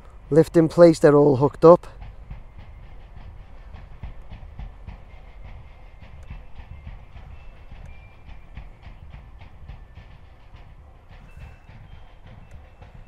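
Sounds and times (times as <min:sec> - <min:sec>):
steady low rumble: 0:01.4 - 0:12.9
faint irregular clicks: 0:01.9 - 0:13.0.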